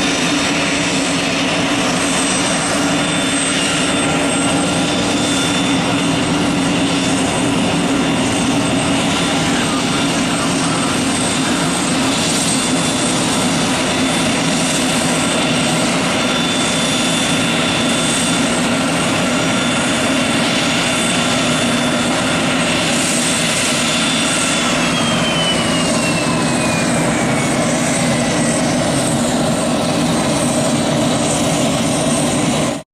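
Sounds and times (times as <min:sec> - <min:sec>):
jet engines with turbine whine: 0:00.0 - 0:32.9.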